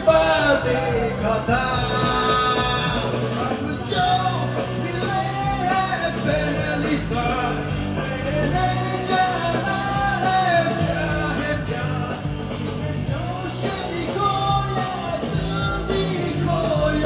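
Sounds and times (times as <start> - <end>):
karaoke backing track: 0.0 - 17.0
man singing into a microphone: 0.0 - 17.0.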